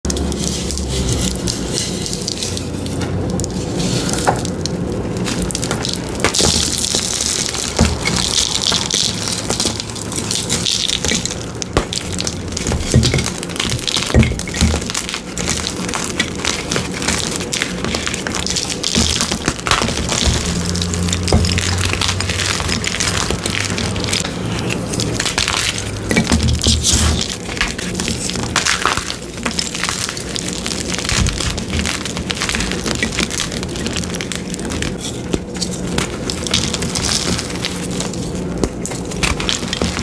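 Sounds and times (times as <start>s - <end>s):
chalk blocks crunching: 0.0s - 40.0s
powdery crumbling hiss: 0.1s - 40.0s.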